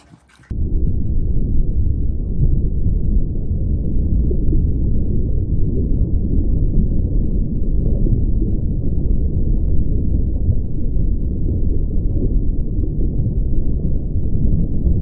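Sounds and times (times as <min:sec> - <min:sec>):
steady deep rumble: 0:00.0 - 0:15.0.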